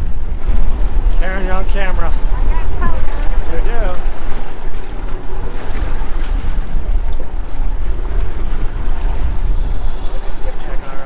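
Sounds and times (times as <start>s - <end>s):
waves and water washing: 0.0s - 11.0s
wind buffeting microphone: 0.0s - 11.0s.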